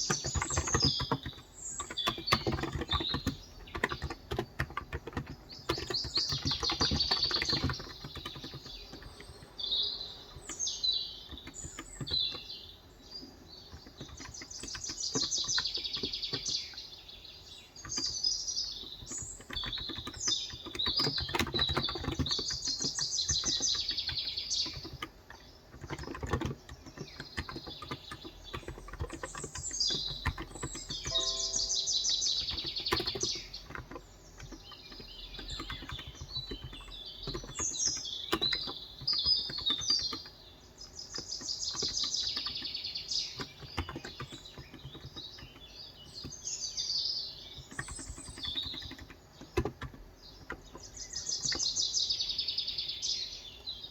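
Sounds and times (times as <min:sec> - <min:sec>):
typing on a keyboard: 0:00.0 - 0:53.2
birds chirping and trilling: 0:00.0 - 0:53.9.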